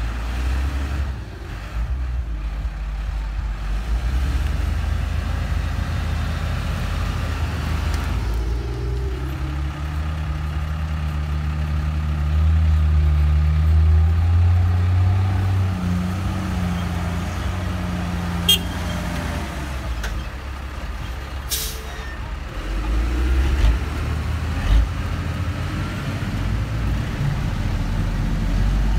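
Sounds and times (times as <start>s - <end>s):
diesel engine under load: 0.0s - 28.9s.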